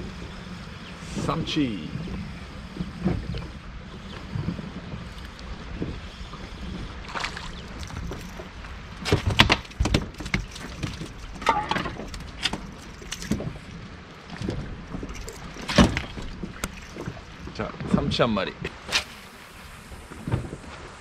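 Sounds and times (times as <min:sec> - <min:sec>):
water noise: 0:00.0 - 0:21.0
wind: 0:00.0 - 0:21.0
knocks and clatter on boat: 0:01.1 - 0:19.1, 0:20.1 - 0:21.0.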